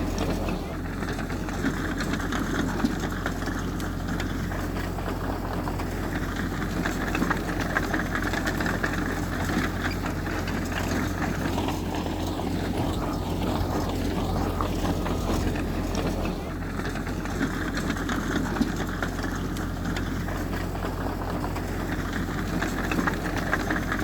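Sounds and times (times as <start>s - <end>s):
heavy diesel engine droning: 0.0s - 24.0s.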